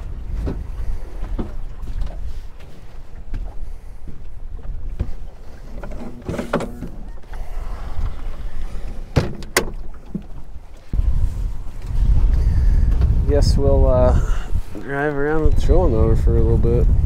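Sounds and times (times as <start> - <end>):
wind rumble on microphone: 0.0 - 10.0, 10.8 - 17.0.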